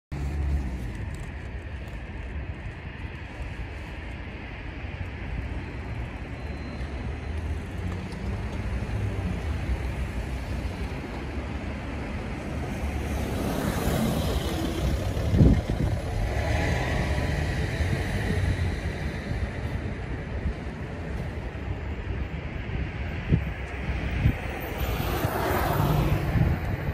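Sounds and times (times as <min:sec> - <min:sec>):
cars driving past: 0:03.8 - 0:26.9.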